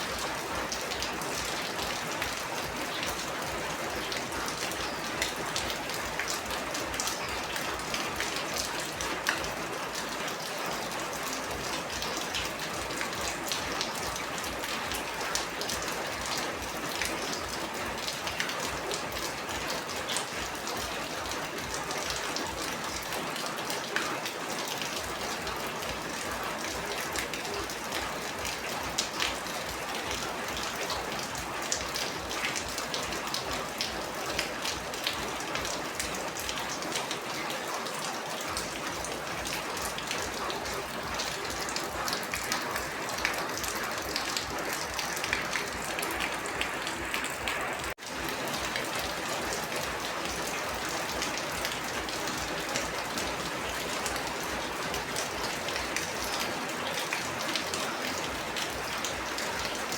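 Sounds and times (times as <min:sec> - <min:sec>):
heavy rain spattering on surface: 0:00.0 - 0:59.9.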